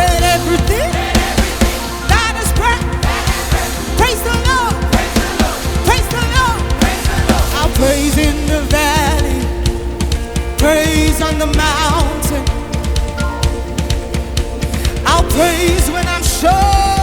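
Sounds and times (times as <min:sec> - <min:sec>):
gospel band with drum kit: 0:00.0 - 0:17.0
person singing melismatic runs: 0:00.0 - 0:17.0.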